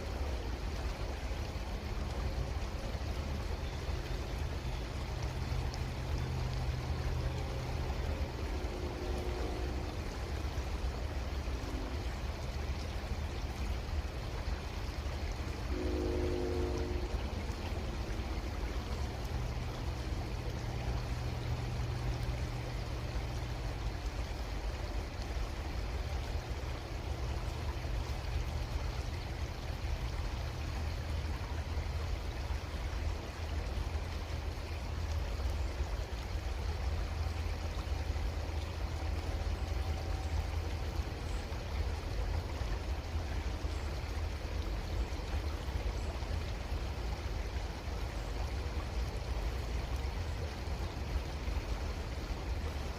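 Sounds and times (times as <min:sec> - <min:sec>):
creek water flowing: 0:00.0 - 0:52.9.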